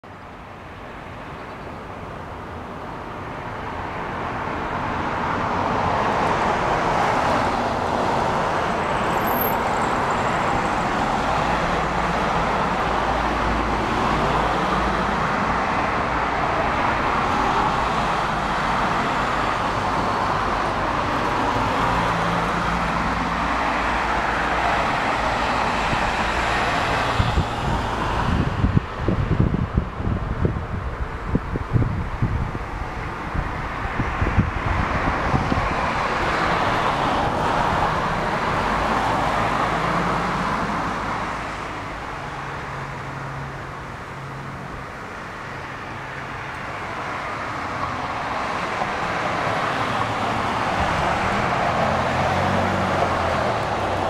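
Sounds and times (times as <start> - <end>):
passing cars: 0.0 - 54.0.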